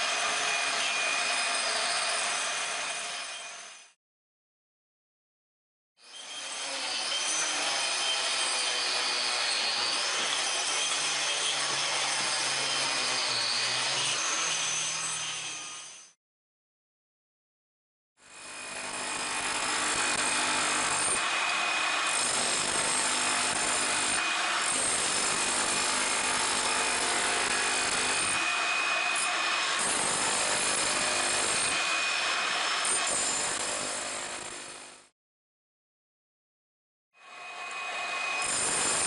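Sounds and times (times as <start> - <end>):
power tool on concrete: 0.0 - 4.0, 6.0 - 16.2, 18.2 - 35.1, 37.2 - 39.0.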